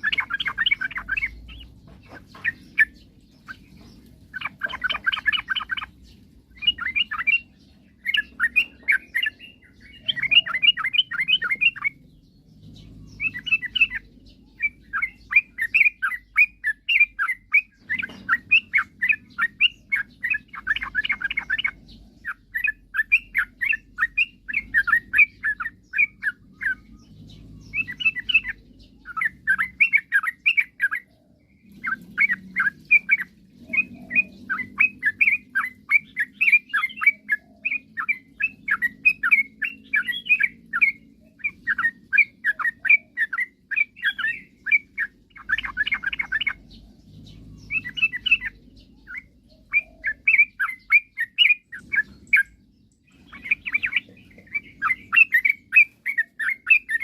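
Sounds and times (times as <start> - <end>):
bird singing chattering phrases: 0.0 - 57.0.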